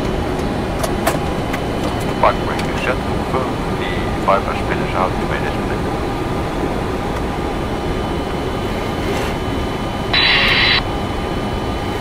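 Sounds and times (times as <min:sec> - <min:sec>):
steady rumble and hiss: 0:00.4 - 0:09.0, 0:10.0 - 0:11.4.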